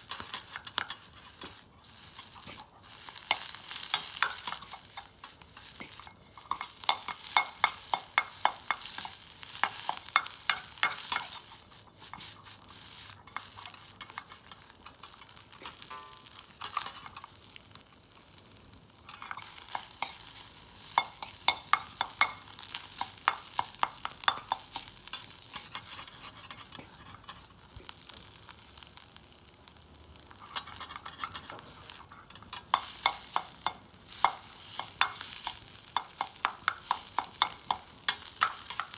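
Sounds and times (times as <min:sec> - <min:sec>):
metal spatula scraping wok: 0:00.0 - 0:18.3, 0:18.9 - 0:38.9
food sizzling in oil: 0:00.0 - 0:38.9.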